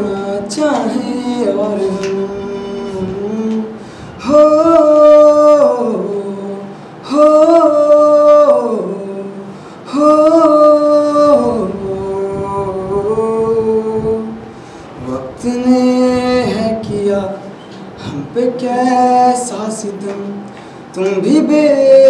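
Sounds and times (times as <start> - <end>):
man singing solo: 0.0 - 22.0.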